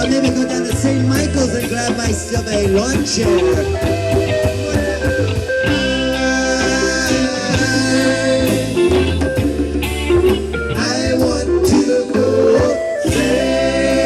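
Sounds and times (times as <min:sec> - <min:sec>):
person singing: 0:00.0 - 0:09.3, 0:10.7 - 0:14.0
acoustic guitar bass and drums: 0:00.0 - 0:14.0.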